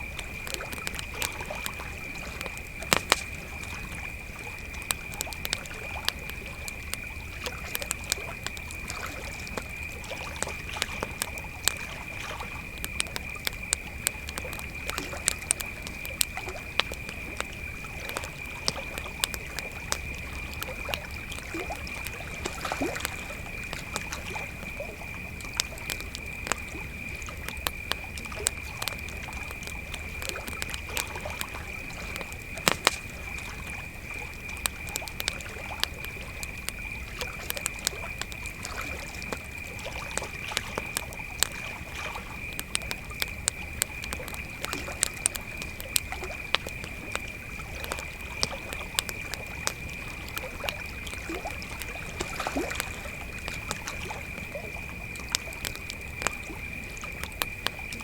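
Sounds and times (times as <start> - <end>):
campfire crackling and popping: 0.0 - 58.0
crickets chirping: 0.0 - 58.0.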